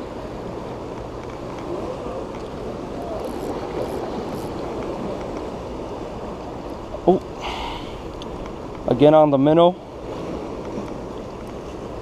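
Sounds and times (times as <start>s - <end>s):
churning water rushing: 0.0s - 12.0s
low steady hum: 0.0s - 12.0s.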